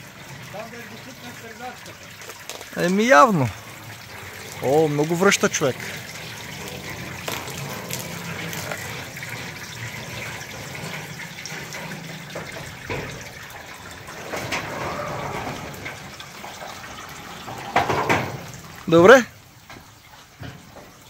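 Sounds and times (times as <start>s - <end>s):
water drips ticking: 0.0s - 14.3s, 14.9s - 21.0s
water trickling through gutter: 0.0s - 21.0s.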